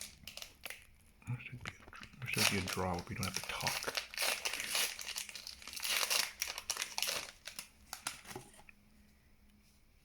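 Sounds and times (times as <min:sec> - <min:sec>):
plastic wrapper tearing and crinkling: 0:00.0 - 0:08.5.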